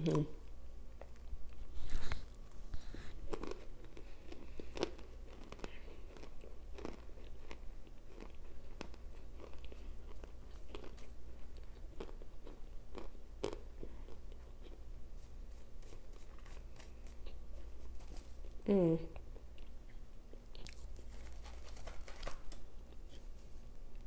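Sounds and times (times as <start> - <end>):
crunchy food chewing: 0.0 - 24.0.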